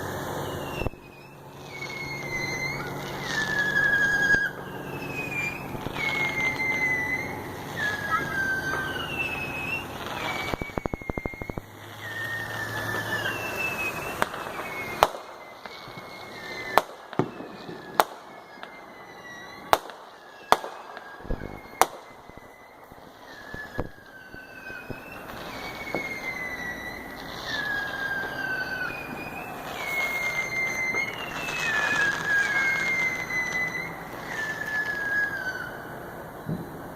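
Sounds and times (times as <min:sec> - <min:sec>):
firework bangs: 0:00.0 - 0:36.9
firework crackle: 0:00.0 - 0:36.9
wavering firework whistles: 0:00.0 - 0:36.9.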